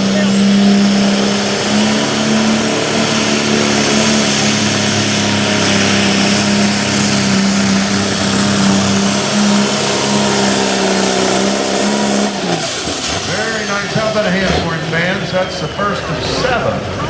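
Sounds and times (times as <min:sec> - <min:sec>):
tractor engine at full power: 0:00.0 - 0:17.0.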